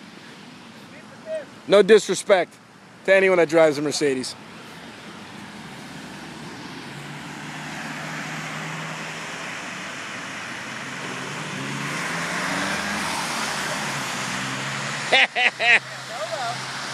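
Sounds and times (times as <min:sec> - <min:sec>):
road traffic passing: 0:00.0 - 0:16.9
vehicle engine hum: 0:00.0 - 0:16.9.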